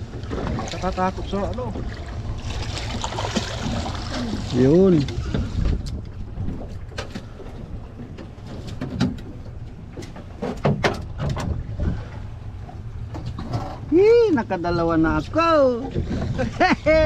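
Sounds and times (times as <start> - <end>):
boat engine rumble: 0.0 - 17.0.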